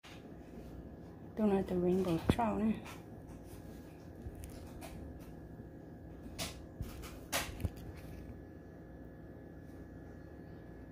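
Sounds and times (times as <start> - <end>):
steady low hum: 0.1 - 10.9.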